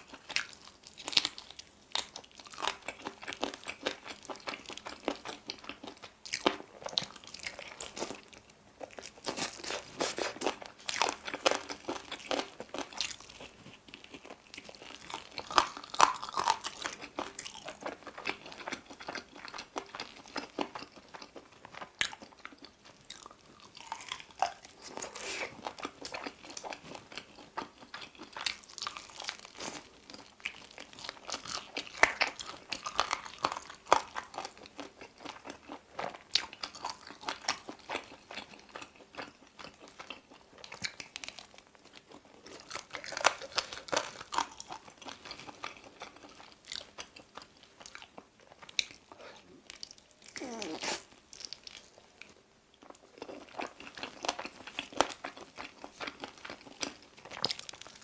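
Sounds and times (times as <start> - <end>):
crunching and wet chewing: 0.0 - 58.0.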